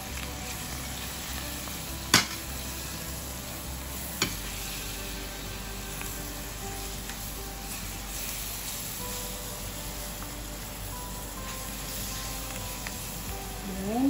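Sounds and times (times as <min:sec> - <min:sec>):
pork sizzling in oil: 0:00.0 - 0:14.0.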